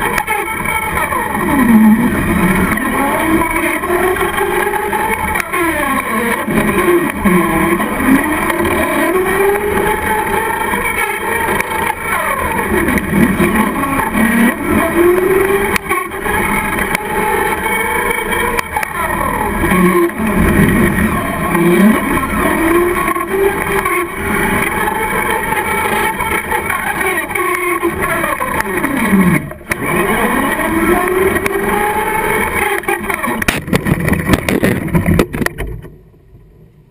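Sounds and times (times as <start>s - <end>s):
toy truck motor whining: 0.0s - 35.2s.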